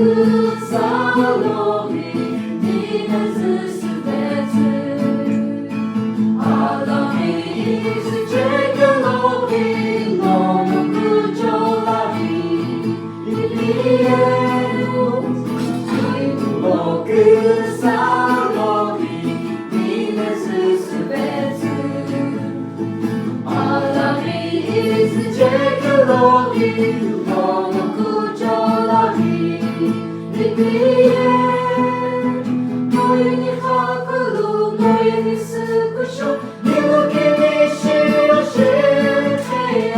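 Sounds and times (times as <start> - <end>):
voices singing a melody: 0.0 - 39.9.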